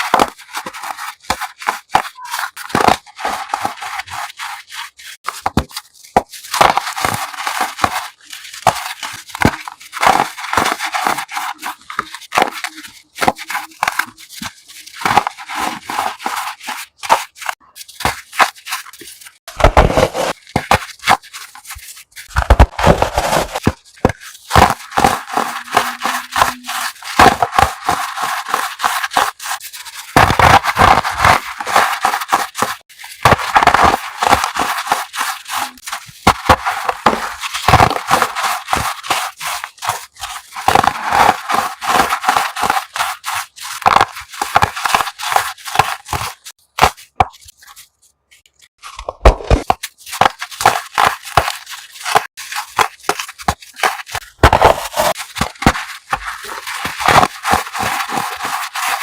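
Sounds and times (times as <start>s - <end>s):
chalk blocks crunching: 0.0s - 59.0s.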